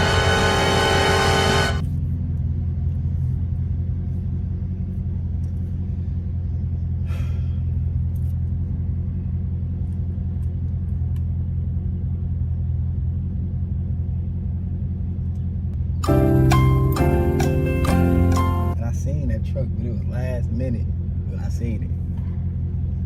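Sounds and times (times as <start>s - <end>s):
car engine rumbling: 0.0s - 23.0s.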